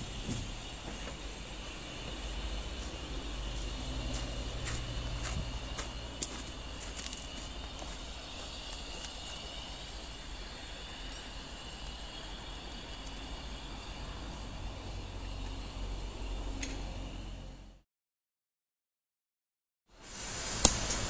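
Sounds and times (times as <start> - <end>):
train rumbling: 0.0 - 17.8.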